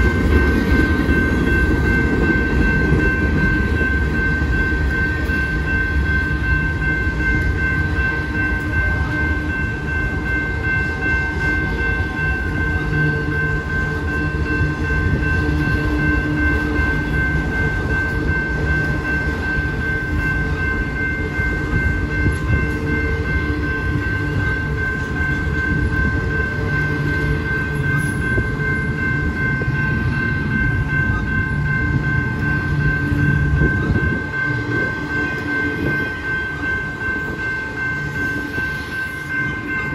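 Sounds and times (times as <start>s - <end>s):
freight train wheels rumbling on rail: 0.0s - 39.9s
steady high ringing tone: 0.0s - 39.9s.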